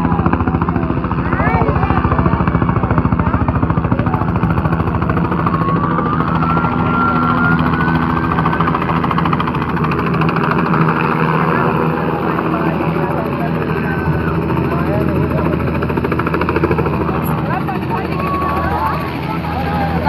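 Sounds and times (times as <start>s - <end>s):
helicopter rotor chop and engine drone: 0.0s - 20.0s.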